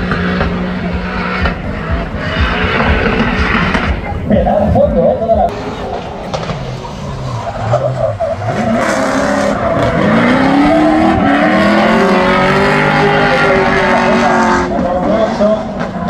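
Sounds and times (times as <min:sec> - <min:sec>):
car engine revving hard: 0:00.0 - 0:04.8, 0:05.5 - 0:16.0.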